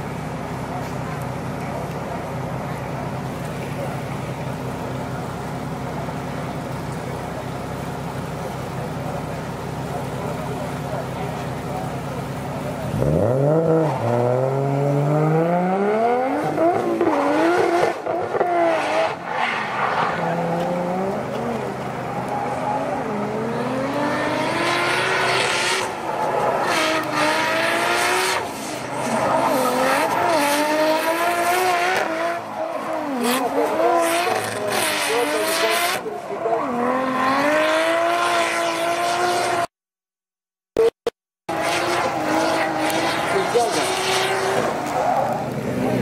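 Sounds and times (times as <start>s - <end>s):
car engine revving: 0.0s - 39.7s, 40.8s - 46.0s.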